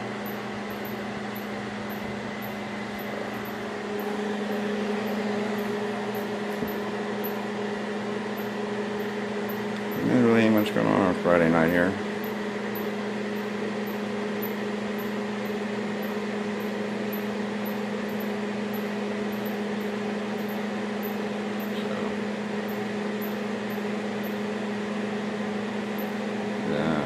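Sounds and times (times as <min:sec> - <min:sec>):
appliance motor hum: 0:00.0 - 0:27.0.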